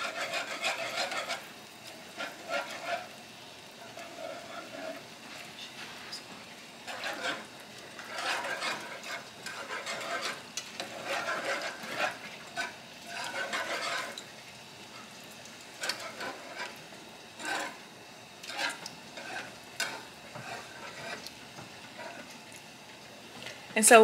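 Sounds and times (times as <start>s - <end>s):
wire whisk scraping a pan: 0.0s - 3.2s, 3.8s - 14.3s, 15.7s - 22.5s.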